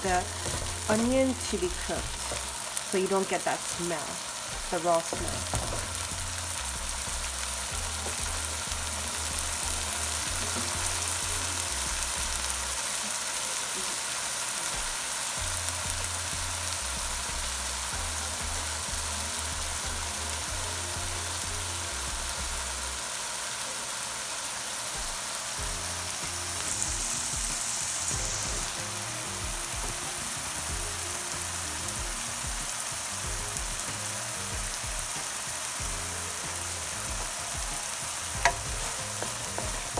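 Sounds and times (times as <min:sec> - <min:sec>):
onion paste sizzling in oil: 0:00.0 - 0:39.9.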